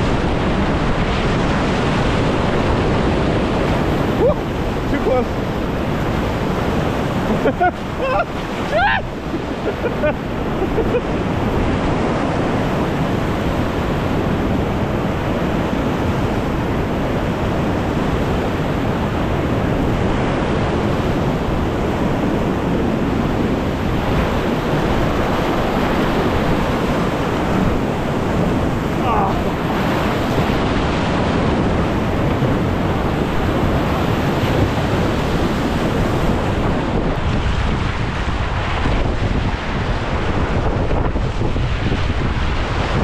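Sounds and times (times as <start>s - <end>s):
whitewater rapids rushing: 0.0s - 39.1s.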